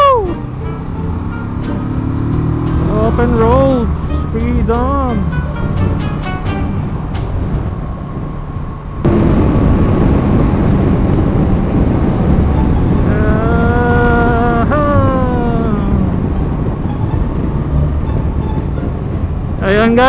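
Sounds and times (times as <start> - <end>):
motorcycle engine whine: 0.0 - 20.0
wind rumble on microphone: 0.0 - 20.0.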